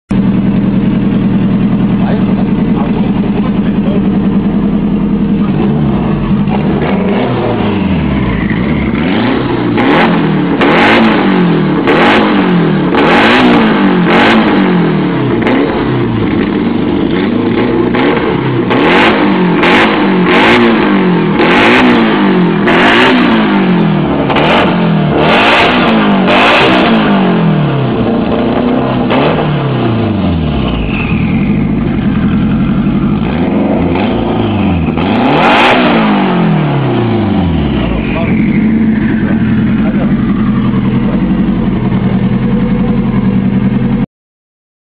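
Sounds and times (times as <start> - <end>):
turbo engine revving: 0.1 - 44.0.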